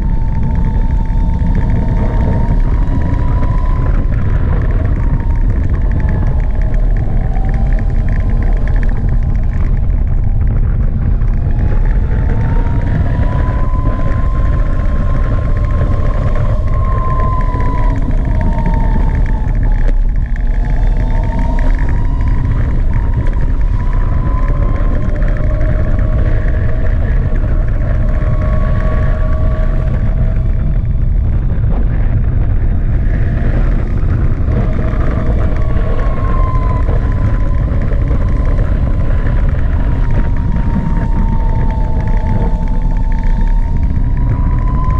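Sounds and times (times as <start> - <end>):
electric scooter motor whine: 0.0 - 44.9
wind on microphone: 0.0 - 44.9.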